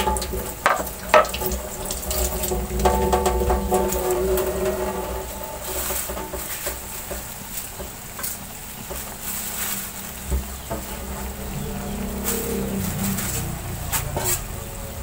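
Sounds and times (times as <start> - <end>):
paste sizzling in a wok: 0.0 - 15.0.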